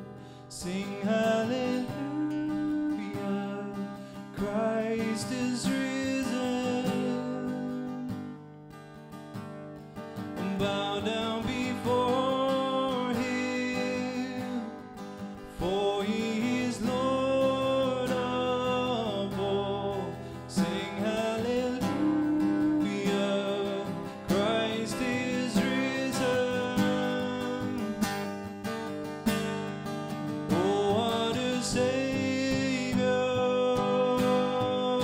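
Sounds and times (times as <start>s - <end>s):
man singing: 0.0s - 7.9s, 10.4s - 14.8s, 15.5s - 28.2s, 30.5s - 35.0s
acoustic guitar: 0.0s - 35.0s.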